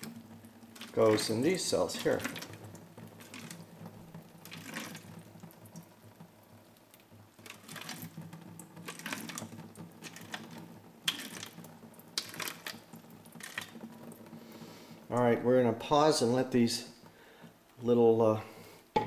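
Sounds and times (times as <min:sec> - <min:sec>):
water trickling and splashing: 0:00.0 - 0:17.9.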